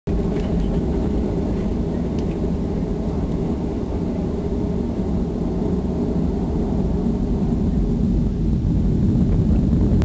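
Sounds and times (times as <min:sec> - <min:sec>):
jet engine cabin rumble: 0:00.1 - 0:10.0
plane rolling noise: 0:00.1 - 0:10.0.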